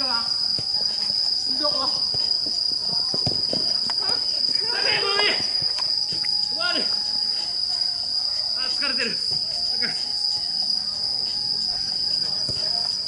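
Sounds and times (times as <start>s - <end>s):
night insects trilling: 0.0s - 13.0s
players shouting: 0.0s - 13.0s.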